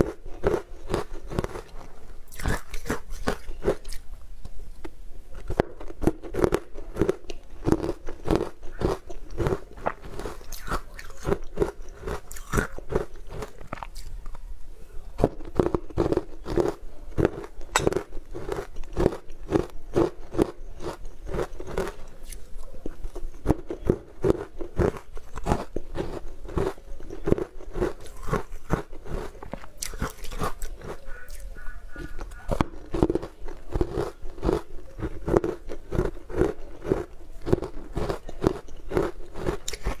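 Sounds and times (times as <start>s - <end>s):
crunchy sweets being chewed: 0.0s - 4.2s, 5.3s - 14.4s, 15.1s - 40.0s.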